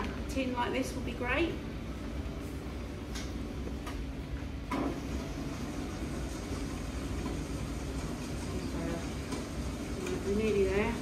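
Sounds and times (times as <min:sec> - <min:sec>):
mixer humming: 0:00.0 - 0:11.0.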